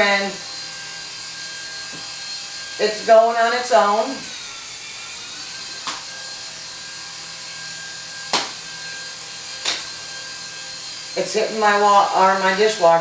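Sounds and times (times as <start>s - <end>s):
small propellers whirring: 0.0s - 13.0s.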